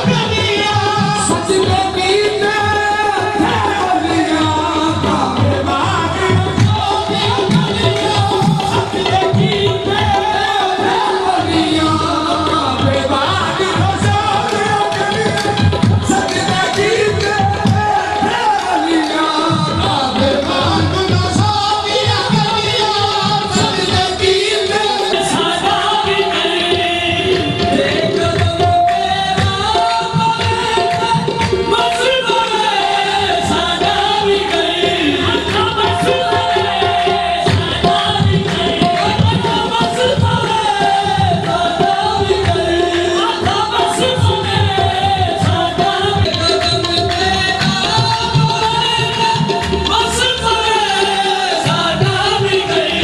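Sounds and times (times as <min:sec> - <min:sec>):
tabla drumming: 0:00.0 - 0:53.0.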